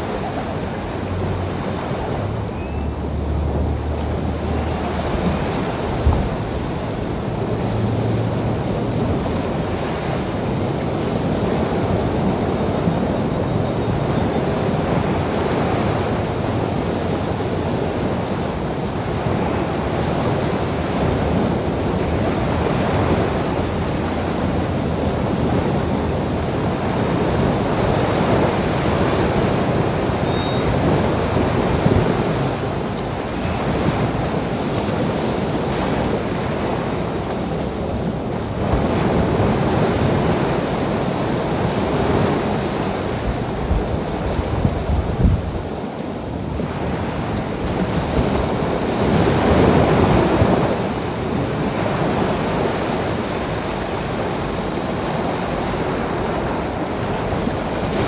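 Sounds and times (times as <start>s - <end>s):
ocean surf washing on beach: 0.0s - 58.0s
wind noise on microphone: 0.0s - 58.0s.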